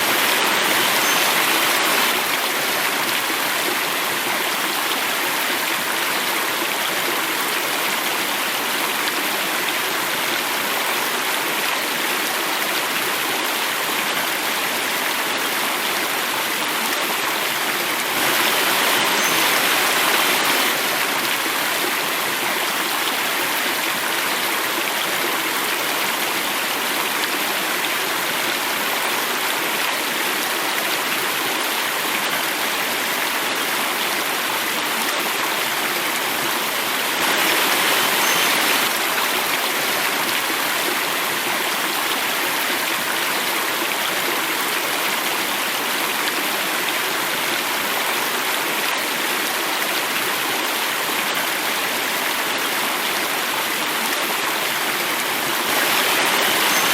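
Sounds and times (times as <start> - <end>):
water rushing over cascade: 0.0 - 56.9.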